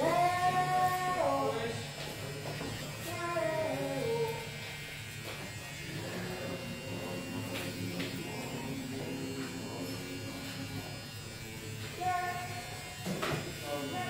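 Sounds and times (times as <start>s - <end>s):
low electric buzz: 0.0s - 14.0s
razor scraping stubble: 0.0s - 14.0s.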